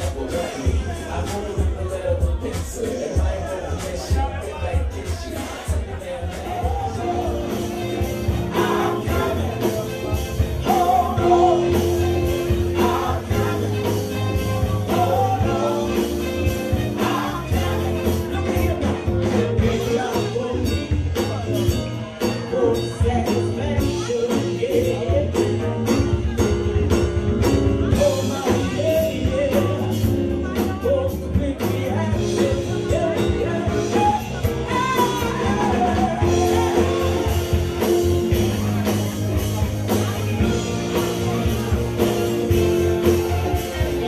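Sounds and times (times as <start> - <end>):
drum beat with cymbals: 0.0 - 44.0
live band playing: 0.0 - 44.0.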